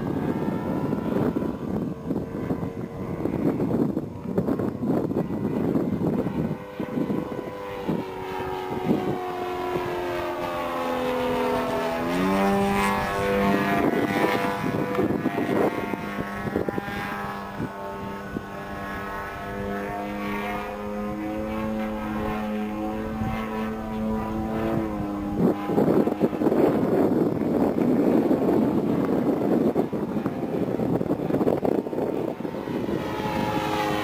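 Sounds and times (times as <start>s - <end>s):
model plane engine droning: 0.0s - 34.0s
wind rumble on microphone: 0.0s - 34.0s.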